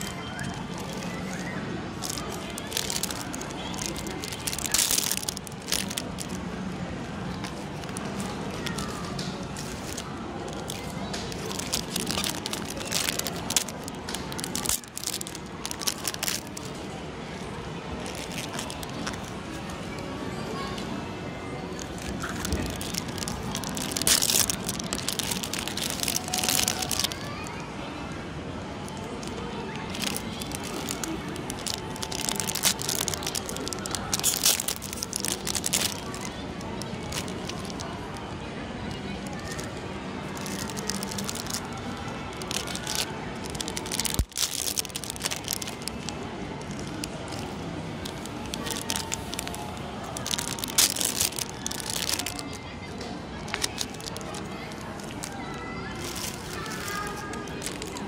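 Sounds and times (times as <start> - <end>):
plastic packaging crinkling: 0.0 - 6.5, 7.4 - 16.8, 18.0 - 19.6, 21.8 - 27.6, 28.8 - 52.6, 53.3 - 58.0.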